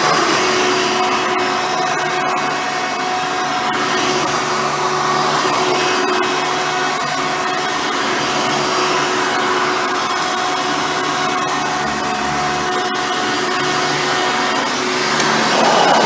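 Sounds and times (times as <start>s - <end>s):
upright vacuum cleaner running: 0.0s - 16.0s.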